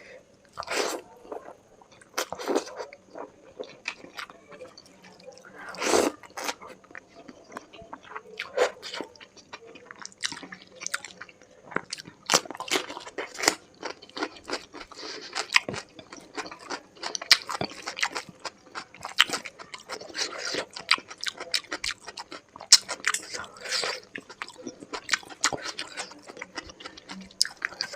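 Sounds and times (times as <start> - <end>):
chewing and crunching: 0.5 - 27.9.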